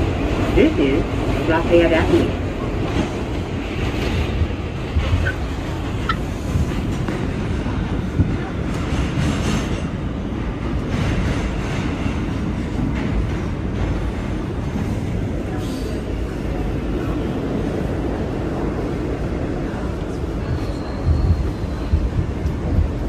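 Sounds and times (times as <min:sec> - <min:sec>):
subway wheels rumbling on rail: 0:00.0 - 0:23.0.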